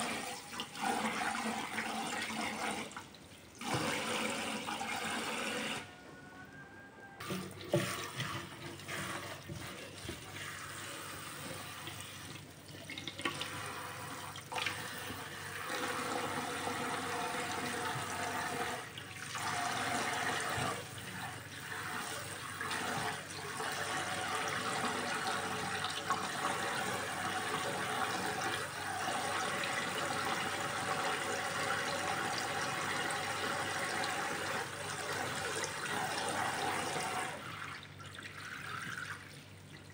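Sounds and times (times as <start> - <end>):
tap water running into bowl: 0.0 - 5.8, 7.2 - 39.9.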